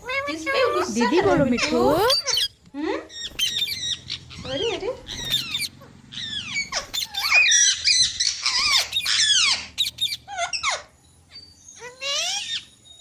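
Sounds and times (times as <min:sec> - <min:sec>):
parrots screeching: 0:00.0 - 0:10.9, 0:11.8 - 0:12.8.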